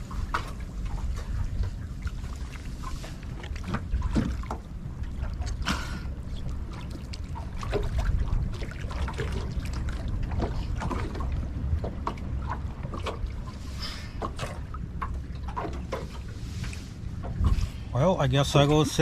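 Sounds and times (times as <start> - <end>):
water slapping against boat hull: 0.0 - 19.0
wind rumble on microphone: 0.0 - 19.0.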